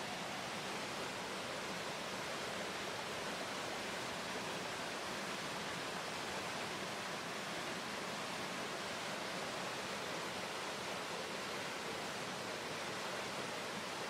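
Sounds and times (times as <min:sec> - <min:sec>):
white water roaring: 0:00.0 - 0:14.0.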